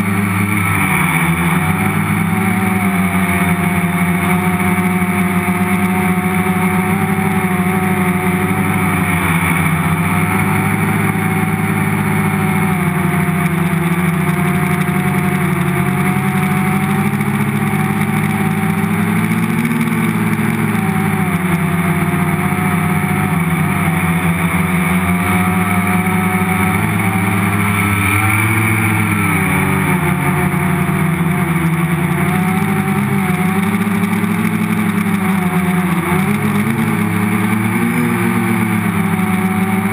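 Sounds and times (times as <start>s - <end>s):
drone motors buzzing hum: 0.0s - 39.9s.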